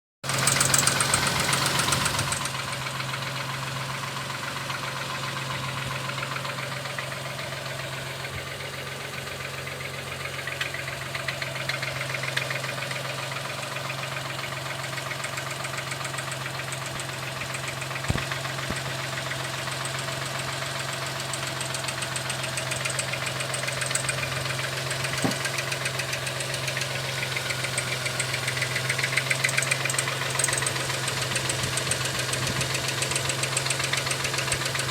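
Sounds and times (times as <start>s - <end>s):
engine running with ticking knock: 0.2s - 34.9s.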